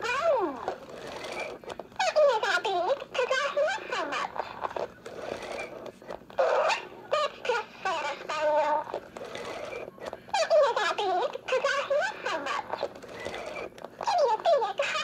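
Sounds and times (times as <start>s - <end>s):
high toy voice speaking: 0.0s - 4.8s, 6.4s - 9.7s, 10.3s - 15.0s.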